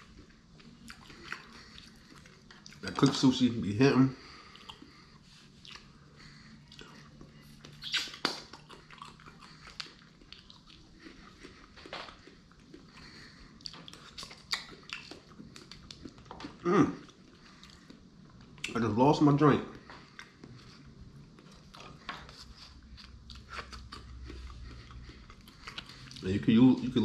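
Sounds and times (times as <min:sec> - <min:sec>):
person chewing food: 0:00.0 - 0:03.4, 0:04.2 - 0:18.8, 0:19.7 - 0:27.0.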